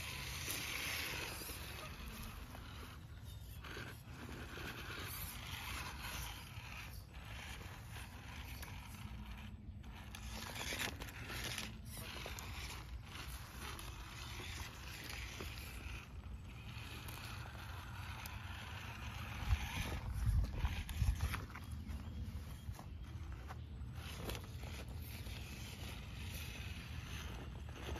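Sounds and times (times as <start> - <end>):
toy car electric motor running: 0.0 - 27.9
tyres scraping on stone: 0.0 - 27.9.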